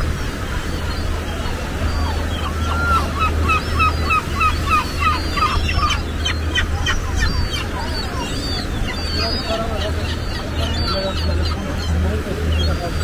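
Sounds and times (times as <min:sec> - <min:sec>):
seagulls calling: 0:00.0 - 0:13.0.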